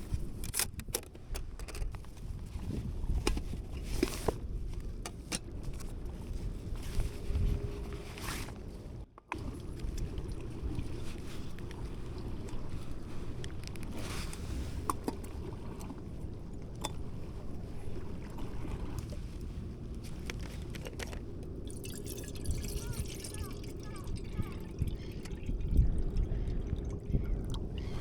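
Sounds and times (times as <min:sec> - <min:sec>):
sea at the shore: 0:00.0 - 0:28.0
wind: 0:00.0 - 0:28.0.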